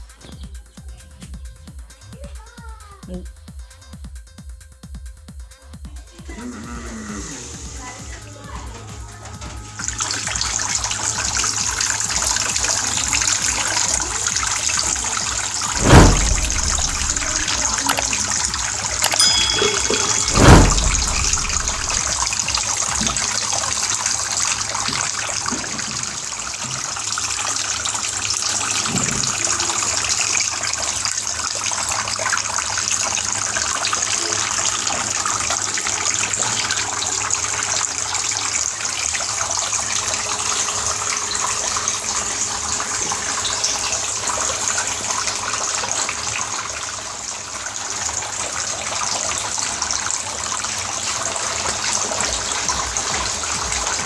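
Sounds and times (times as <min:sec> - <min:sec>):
small fountain water trickling: 0:07.8 - 0:54.0.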